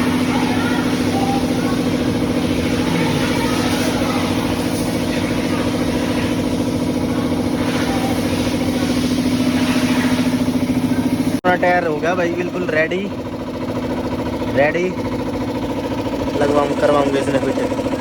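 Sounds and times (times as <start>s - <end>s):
machine humming with fast pulse: 0.0s - 18.0s.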